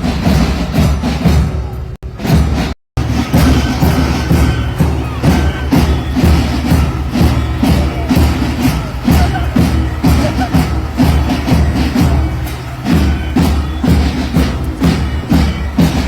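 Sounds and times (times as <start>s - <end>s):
drums beating a march rhythm: 0.0s - 16.0s
marching band playing: 0.0s - 16.0s.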